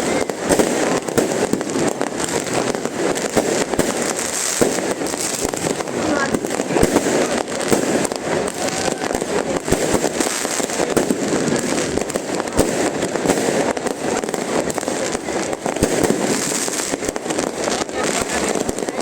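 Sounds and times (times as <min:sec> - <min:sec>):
constant din: 0:00.0 - 0:19.0
fireworks bangs and cracks: 0:00.0 - 0:19.0.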